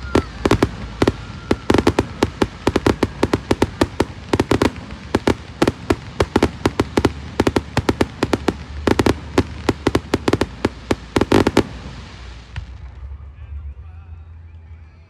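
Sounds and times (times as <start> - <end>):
fireworks bangs and cracks: 0.0 - 13.2
continuous low rumble: 0.0 - 15.0.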